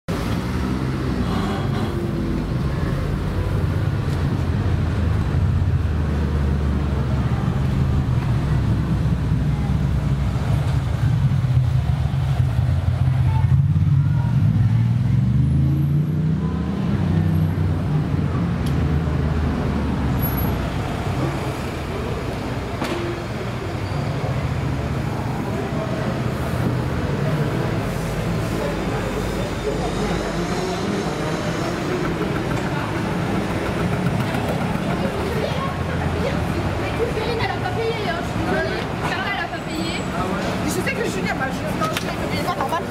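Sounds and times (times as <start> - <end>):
street traffic: 0.1 - 42.9.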